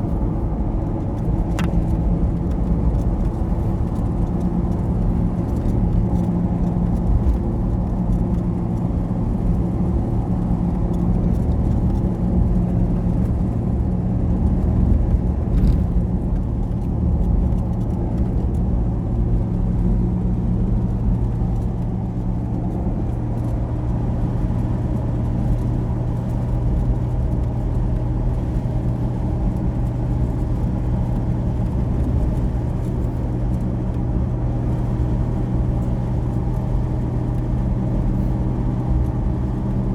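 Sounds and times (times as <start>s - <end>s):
low engine hum: 0.0s - 39.9s
road noise: 0.0s - 39.9s.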